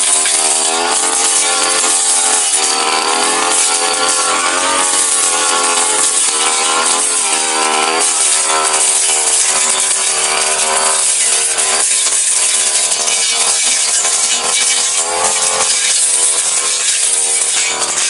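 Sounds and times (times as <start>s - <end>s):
blade cutting grass: 0.0s - 18.0s
brush cutter engine running: 0.0s - 18.0s.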